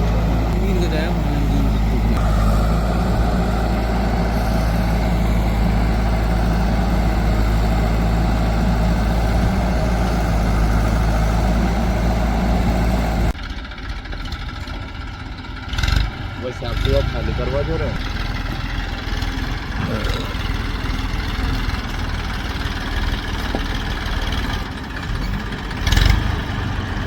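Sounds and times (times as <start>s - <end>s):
heavy diesel engine humming: 0.0s - 27.0s.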